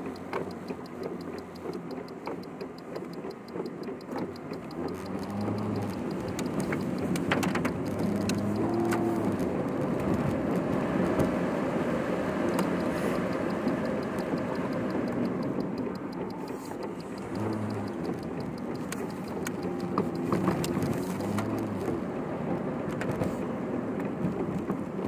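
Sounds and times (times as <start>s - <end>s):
quick ticking: 0.0s - 22.1s
car engine and road noise: 0.0s - 25.0s.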